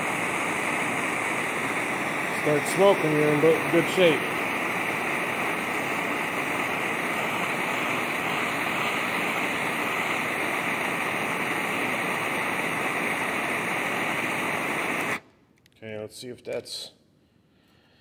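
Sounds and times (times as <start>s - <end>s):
propane torch hissing: 0.0s - 15.2s.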